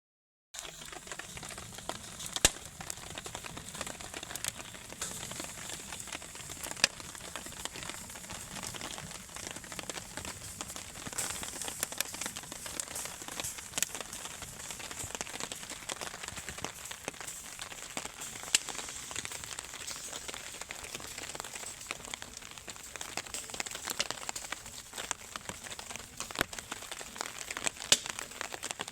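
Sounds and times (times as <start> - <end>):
campfire crackling: 0.6 - 28.9
sharp popping of fire: 0.6 - 28.9.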